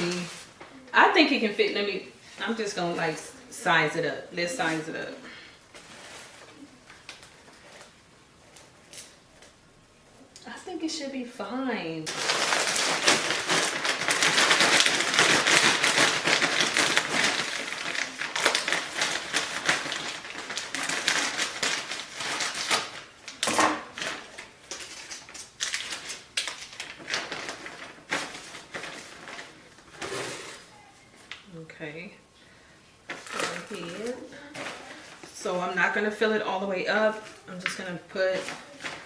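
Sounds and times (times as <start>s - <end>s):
plastic bag crackling: 0.0s - 1.2s, 4.5s - 9.1s, 12.1s - 31.6s, 33.1s - 39.0s.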